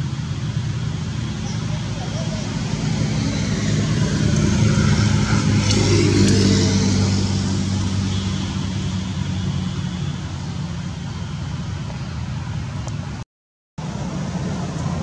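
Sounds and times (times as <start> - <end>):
motor engine humming: 0.0 - 13.2.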